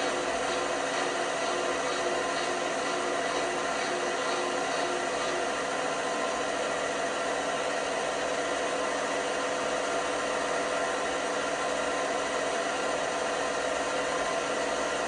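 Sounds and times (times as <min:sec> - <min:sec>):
washing machine whirring hum: 0:00.0 - 0:15.0.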